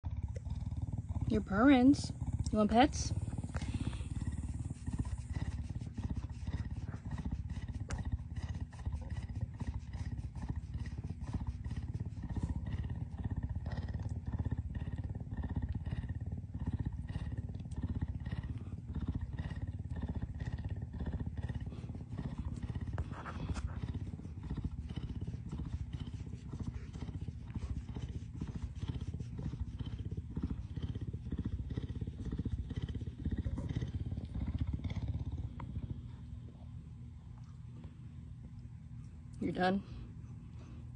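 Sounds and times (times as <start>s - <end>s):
big cat purring: 0.0s - 40.9s.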